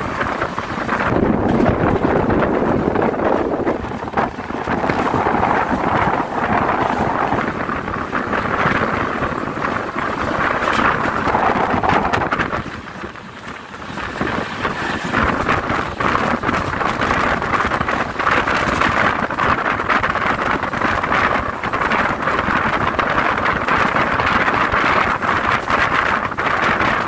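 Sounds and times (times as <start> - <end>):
passenger train running: 0.0 - 27.0
wind buffeting microphone: 0.0 - 27.0.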